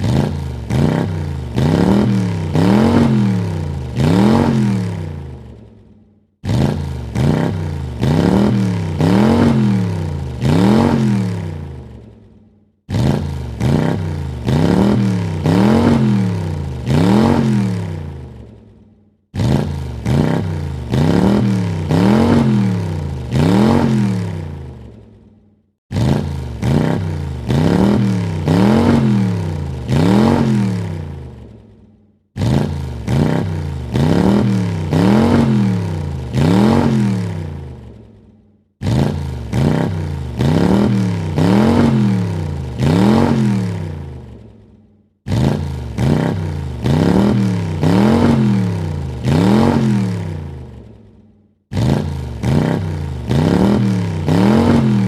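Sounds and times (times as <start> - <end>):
car engine revving: 0.0 - 5.6, 6.4 - 12.1, 12.9 - 18.6, 19.3 - 25.0, 25.9 - 31.6, 32.4 - 38.0, 38.8 - 44.6, 45.3 - 50.9, 51.7 - 55.0.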